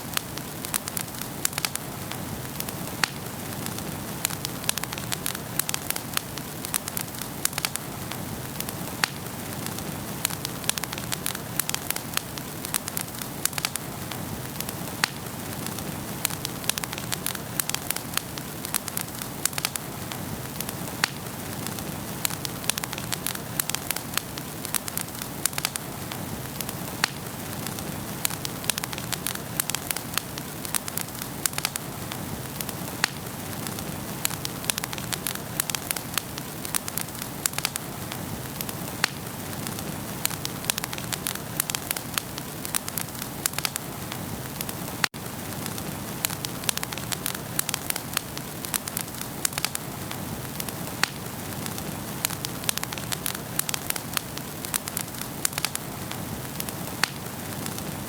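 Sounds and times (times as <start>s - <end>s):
wood fire crackling and hissing: 0.0s - 58.0s.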